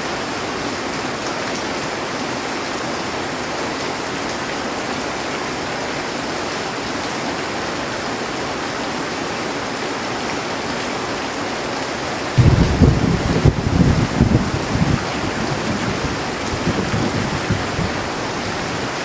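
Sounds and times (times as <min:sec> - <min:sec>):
heavy rain on a metal roof: 0:00.0 - 0:19.0.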